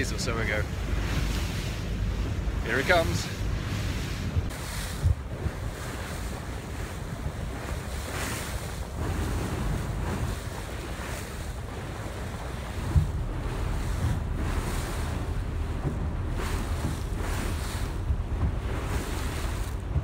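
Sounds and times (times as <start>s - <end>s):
sea water washing: 0.0s - 20.0s
wind buffeting microphone: 0.0s - 20.0s.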